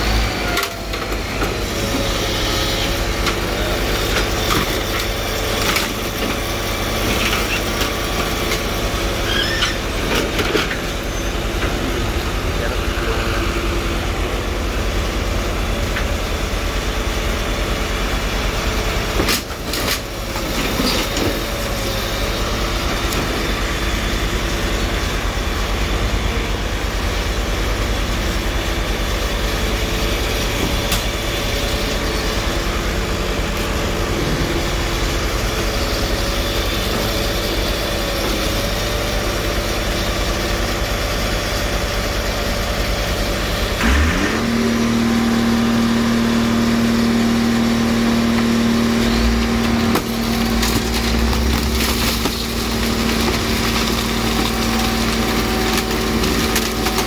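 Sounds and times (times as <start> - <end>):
machine engine droning: 0.0 - 57.0.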